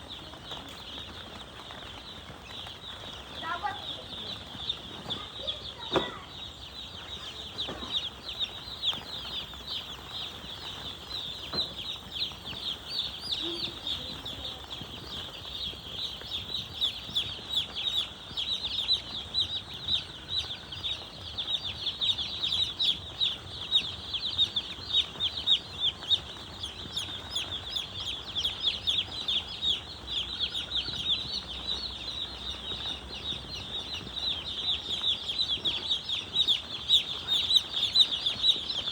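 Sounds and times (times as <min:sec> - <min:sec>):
chicks cheeping: 0:00.0 - 0:38.9.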